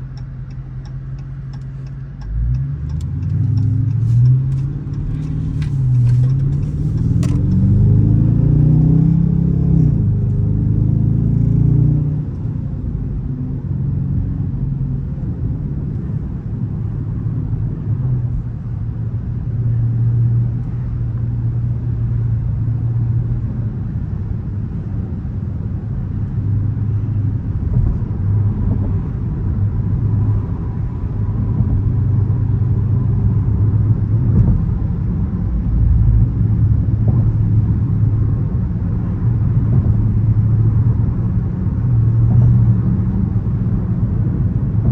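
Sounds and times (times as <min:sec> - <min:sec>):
car engine rumbling: 0:00.0 - 0:44.9
road noise: 0:00.0 - 0:44.9.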